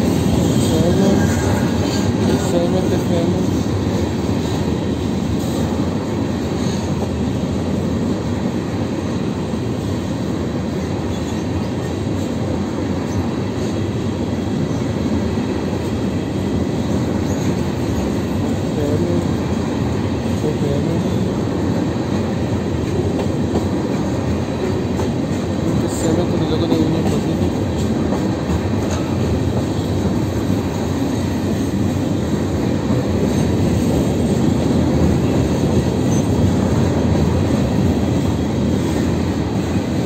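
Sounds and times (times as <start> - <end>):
freight train wheels on rails: 0.0 - 40.0.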